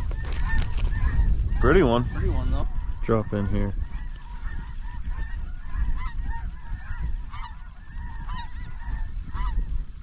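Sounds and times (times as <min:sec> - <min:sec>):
geese honking: 0:00.0 - 0:10.0.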